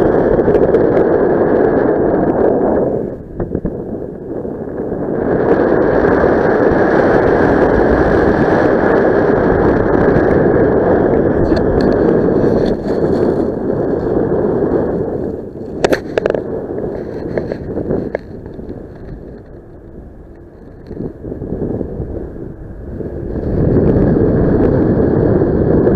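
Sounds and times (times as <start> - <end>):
sharp crackles: 0.0 - 24.8
wind rushing over microphone: 0.0 - 25.9.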